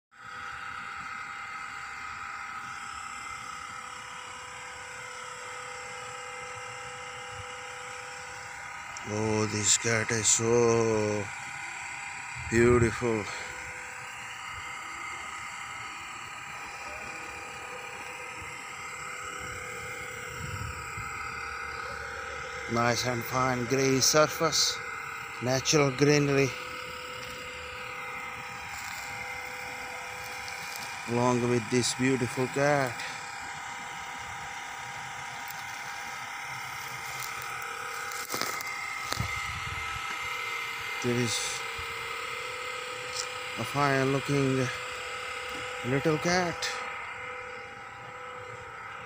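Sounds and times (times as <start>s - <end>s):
steady mechanical hum: 0.1s - 49.0s.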